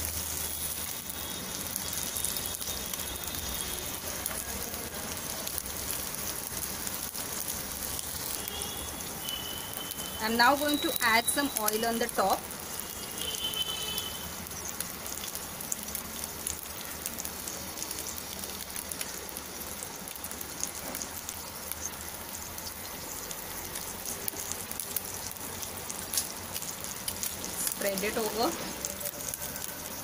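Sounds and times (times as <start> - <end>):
eggs sizzling in hot oil: 0.0 - 30.0.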